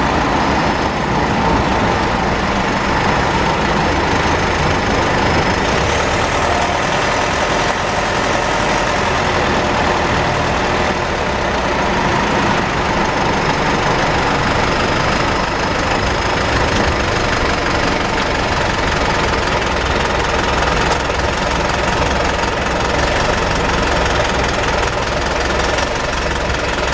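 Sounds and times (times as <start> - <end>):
engine and drivetrain noise: 0.0 - 26.9.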